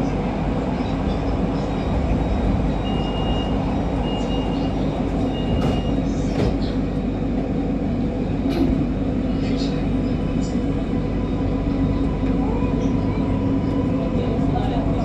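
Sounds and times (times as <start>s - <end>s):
metro train rumble: 0.0s - 15.0s.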